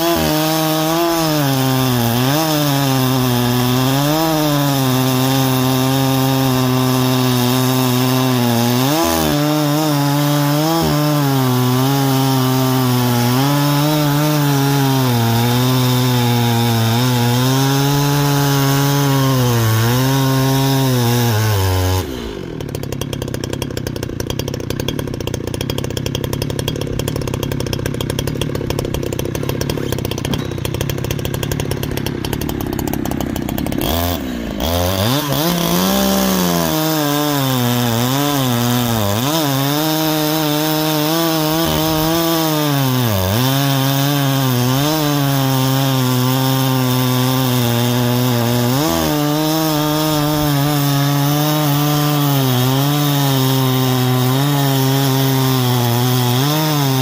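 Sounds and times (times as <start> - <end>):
chainsaw cutting log: 0.0 - 57.0
chainsaw idling: 0.0 - 57.0.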